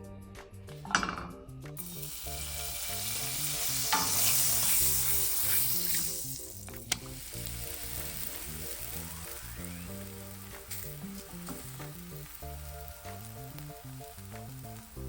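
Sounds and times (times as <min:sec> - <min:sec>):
butter sizzling in skillet: 0:01.8 - 0:15.0.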